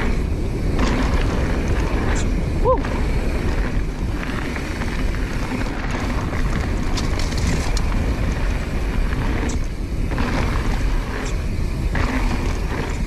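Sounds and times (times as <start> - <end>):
bike clicks and rattles: 0.0 - 13.0
bike tyres rolling on dirt: 0.0 - 13.0
wind rushing over microphone: 0.0 - 13.0.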